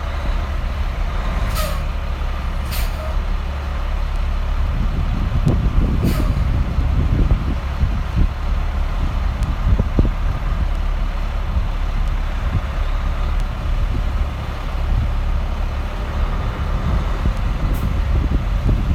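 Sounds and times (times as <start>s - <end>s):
diesel truck engine running: 0.0s - 18.9s.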